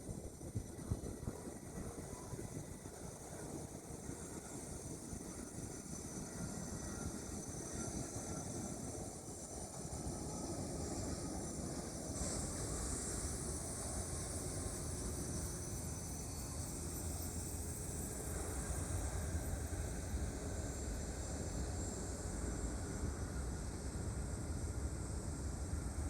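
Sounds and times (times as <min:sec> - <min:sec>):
jet engine rumble and hiss: 0:00.0 - 0:26.0.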